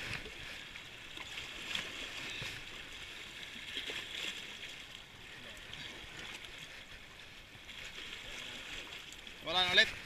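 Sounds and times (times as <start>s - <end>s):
small waves lapping on boulders: 0.0s - 10.0s
water splashes: 0.0s - 10.0s.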